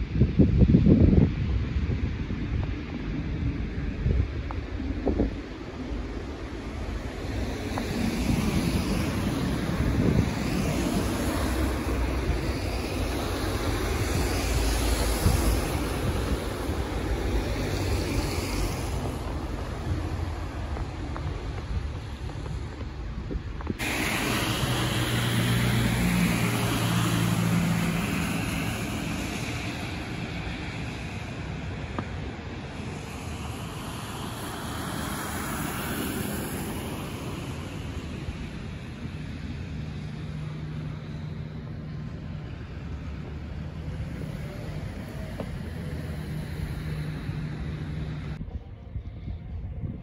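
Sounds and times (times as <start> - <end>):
road traffic rumble: 0.0 - 50.0
wind noise on microphone: 0.0 - 50.0
car tyres hissing through slush: 0.1 - 48.4
car engine hum: 5.0 - 48.4.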